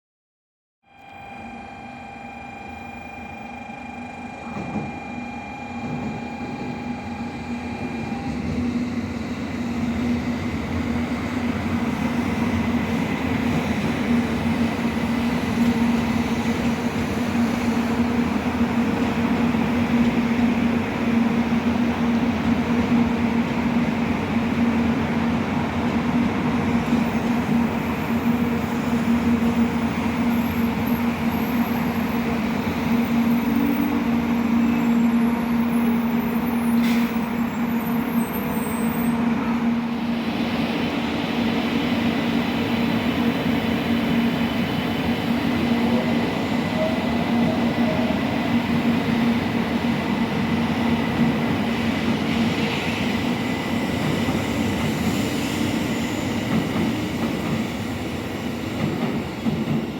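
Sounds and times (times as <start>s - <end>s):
train electric hum: 0.9s - 59.9s
train rolling noise: 4.2s - 59.9s.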